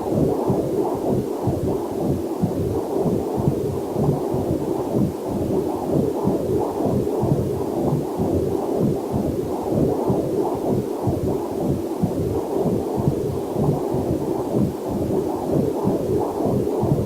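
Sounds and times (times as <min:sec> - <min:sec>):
whooshing heartbeat pulses: 0:00.0 - 0:17.0.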